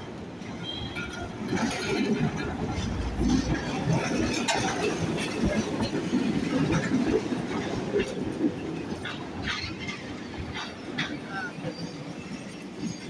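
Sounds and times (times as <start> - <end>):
tram rumbling on rails: 0.0 - 13.0
wheels clacking: 0.5 - 13.0.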